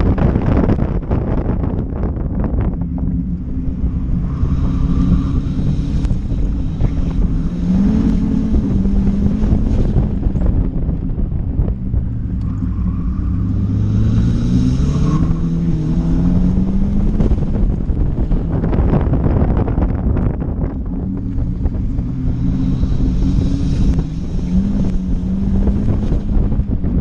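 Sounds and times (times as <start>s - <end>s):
car engine accelerating: 0.0s - 27.0s
wind buffeting microphone: 0.0s - 27.0s.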